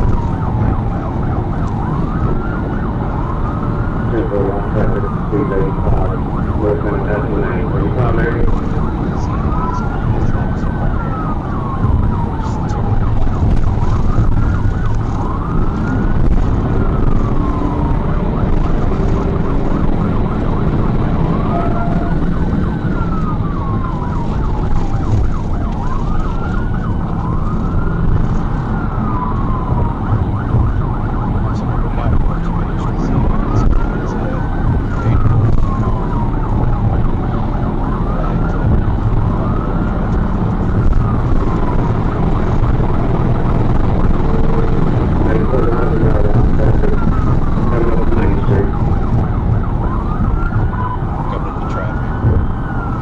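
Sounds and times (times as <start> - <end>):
car engine and road noise: 0.0 - 53.0
police siren wailing: 0.0 - 53.0.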